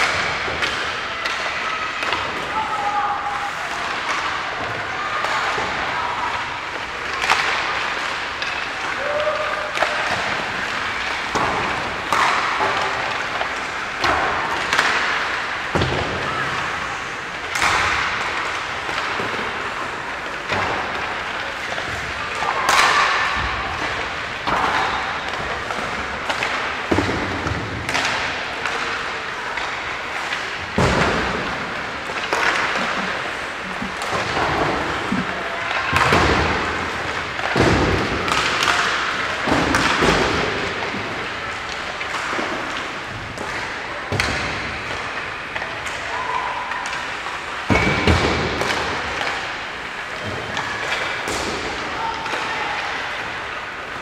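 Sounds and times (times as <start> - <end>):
pucks striking boards and net: 0.0 - 54.0
sticks hitting pucks: 0.0 - 54.0.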